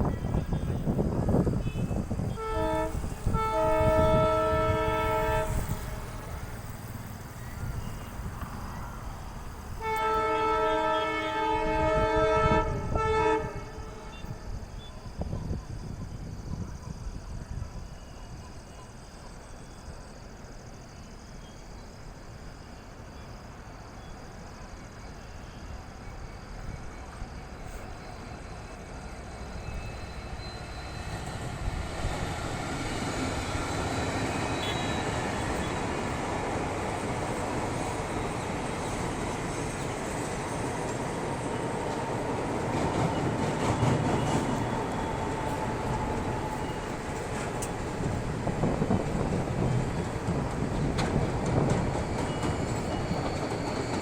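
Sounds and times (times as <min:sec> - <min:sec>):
train passing on rails: 0:00.0 - 0:54.0.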